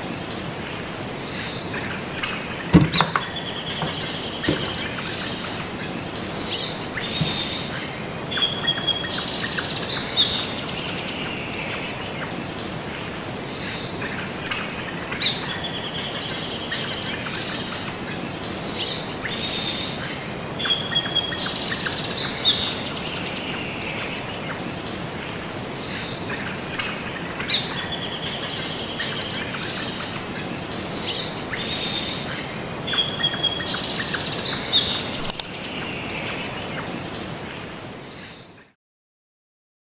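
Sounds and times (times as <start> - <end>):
birds chirping and trilling: 0.0 - 38.7.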